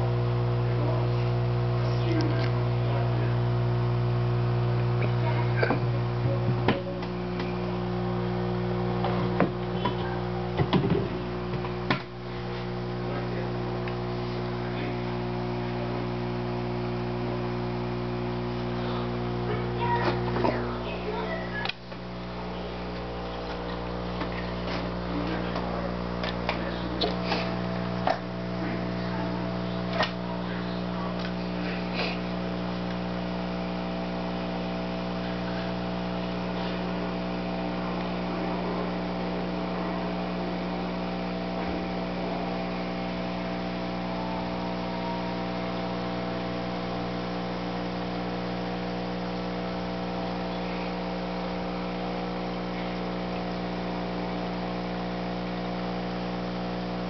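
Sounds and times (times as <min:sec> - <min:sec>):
aquarium air pump humming: 0:00.0 - 0:57.0.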